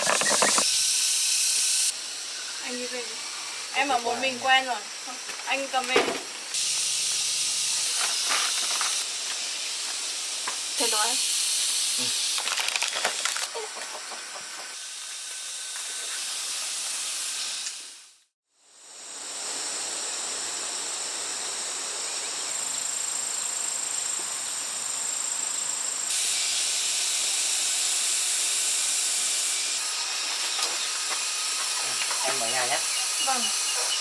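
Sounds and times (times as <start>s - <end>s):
steady hissing noise: 0.0s - 12.4s, 13.9s - 34.0s.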